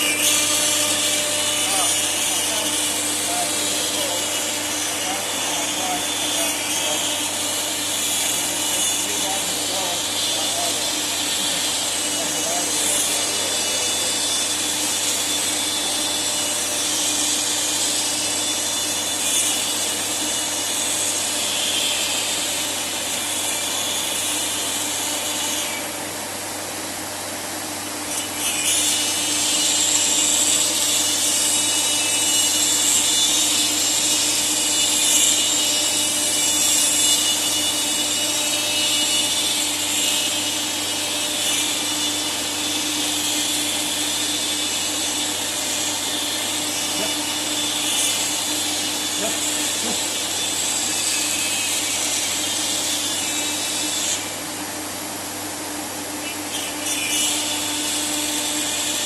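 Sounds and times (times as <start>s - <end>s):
router cutting wood: 0.0s - 26.5s, 27.1s - 55.4s, 56.1s - 59.0s.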